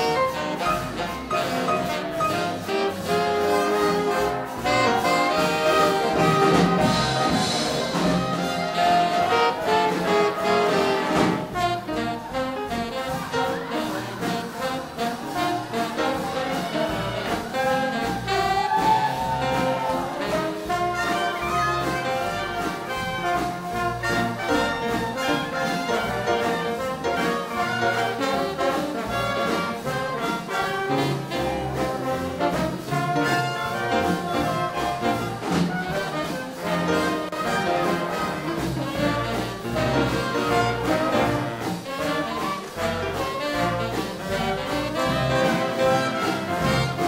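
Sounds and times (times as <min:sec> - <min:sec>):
big band swing jazz: 0:00.0 - 0:47.0.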